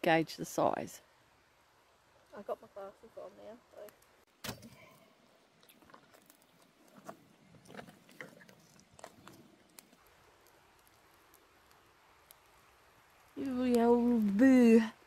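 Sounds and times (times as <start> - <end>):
campfire crackling and popping: 1.8 - 15.0.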